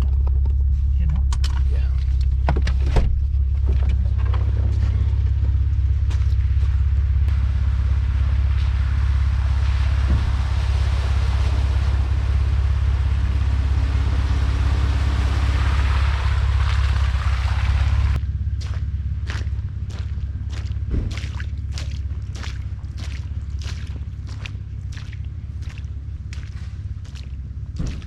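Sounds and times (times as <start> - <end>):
engine and tyres rumbling: 0.0 - 28.0.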